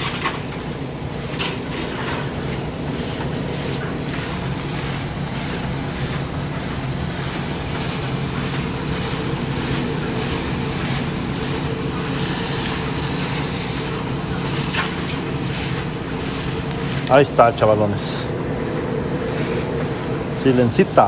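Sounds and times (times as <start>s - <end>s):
clothes dryer hum and rumble: 0.0s - 21.0s.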